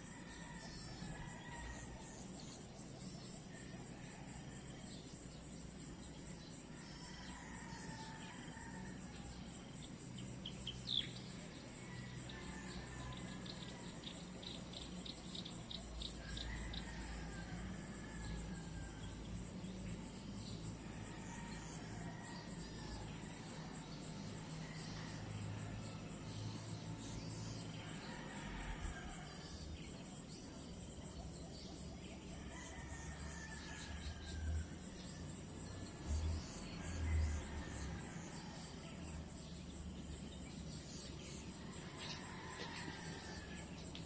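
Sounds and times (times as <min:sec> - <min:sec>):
crickets chirring: 0:00.0 - 0:44.0.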